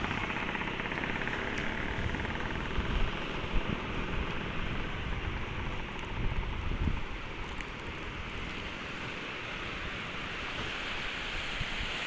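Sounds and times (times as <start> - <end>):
sea waves washing onto beach: 0.0 - 12.0
wind buffeting microphone: 0.0 - 12.0.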